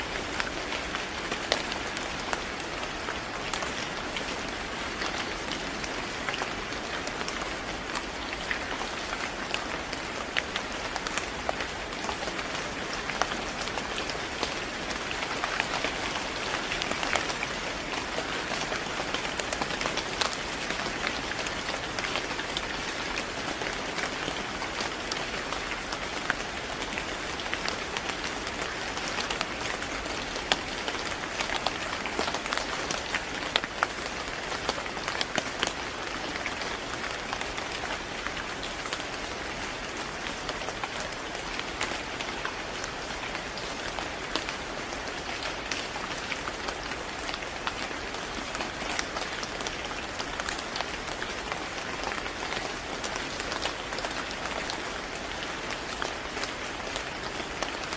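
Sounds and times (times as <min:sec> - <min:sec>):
steady rain on hard surface: 0:00.0 - 0:57.9.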